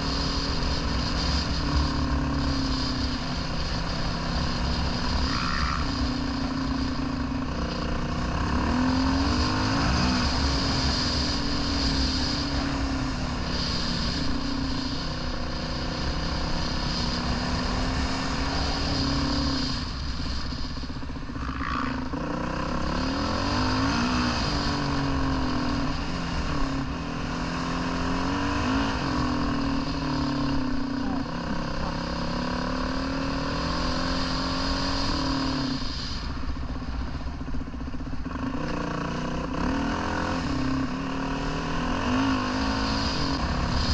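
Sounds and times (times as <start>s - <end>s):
dirt bike engine revving: 0.0s - 43.9s
steady rushing noise: 0.0s - 43.9s.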